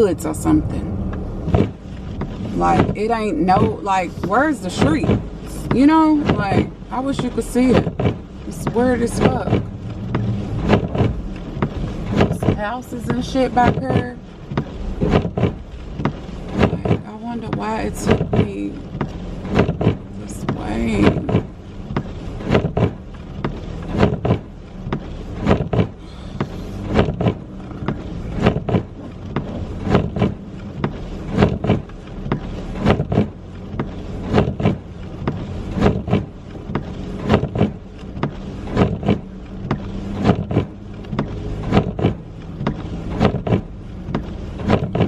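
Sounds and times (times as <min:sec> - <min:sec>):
car engine and road hum: 0:00.0 - 0:45.0
windshield wipers thumping: 0:00.0 - 0:45.0.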